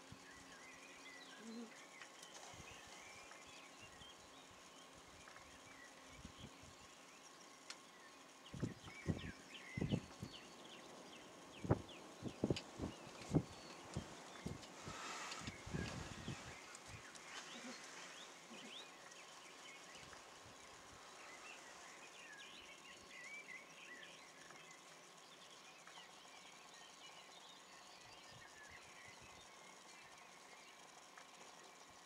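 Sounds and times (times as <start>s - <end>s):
background hiss: 0.0s - 32.0s
small birds chirping: 0.0s - 32.0s.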